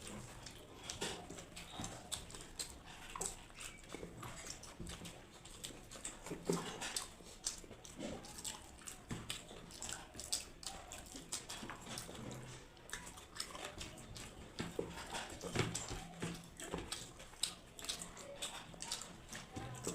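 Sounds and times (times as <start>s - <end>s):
swallowing: 0.0s - 19.9s
wet chewing and smacking: 0.0s - 19.9s.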